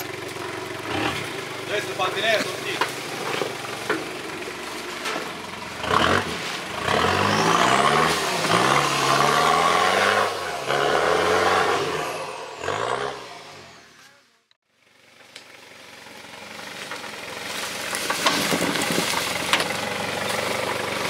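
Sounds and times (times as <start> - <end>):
truck engine revving: 0.0 - 14.0, 16.4 - 21.0.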